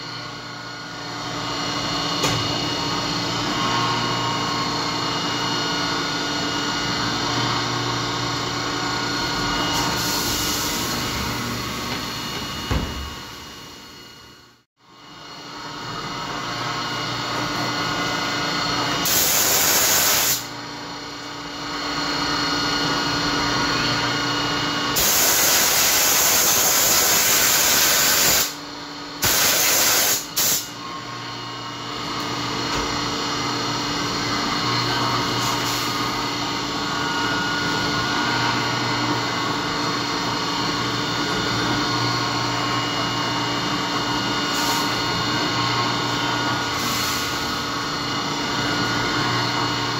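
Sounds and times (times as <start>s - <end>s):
milling machine whine: 0.0s - 49.9s.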